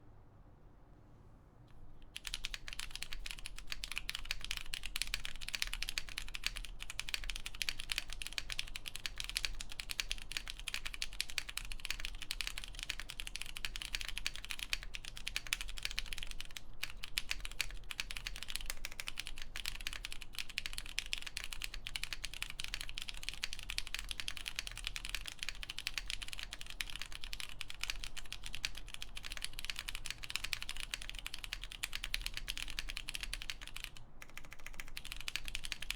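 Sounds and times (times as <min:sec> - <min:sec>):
mechanical keyboard typing: 0:02.0 - 0:35.9.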